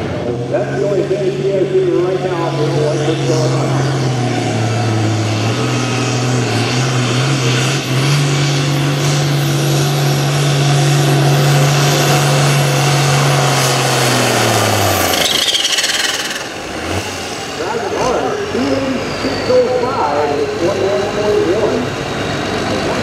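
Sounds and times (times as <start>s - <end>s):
tractor diesel engine at full throttle: 0.0s - 23.0s.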